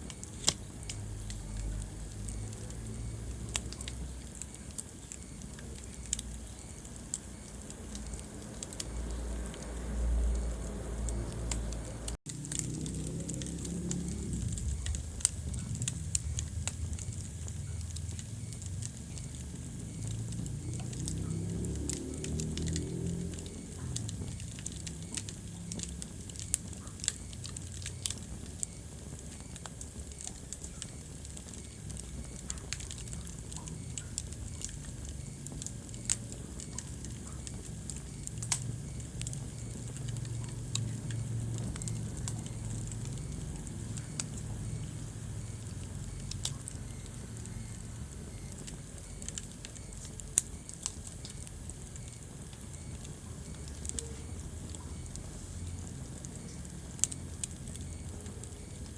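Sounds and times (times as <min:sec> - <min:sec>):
low steady rumble: 0:00.0 - 0:58.9
wood fire crackling: 0:00.0 - 0:58.9.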